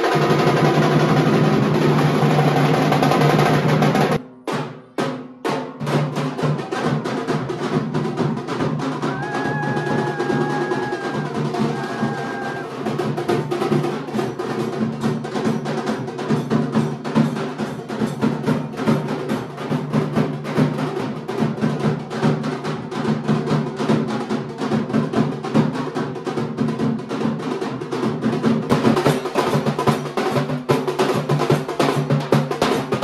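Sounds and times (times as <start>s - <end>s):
fast continuous drumming: 0.0s - 4.6s, 5.5s - 33.0s.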